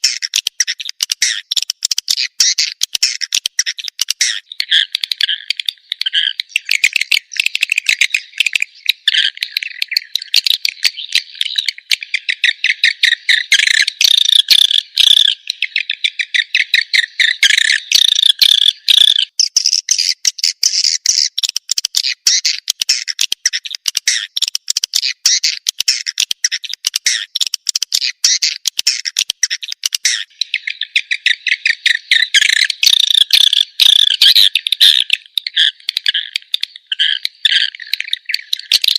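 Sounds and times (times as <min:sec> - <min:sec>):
high-pitched bird twittering: 0:00.0 - 0:38.9.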